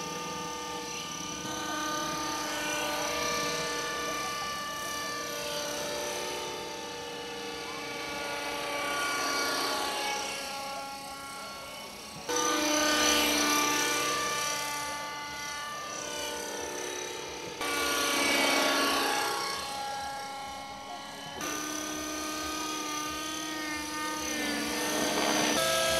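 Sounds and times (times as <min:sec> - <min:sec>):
model helicopter motor whine: 0:00.0 - 0:25.9.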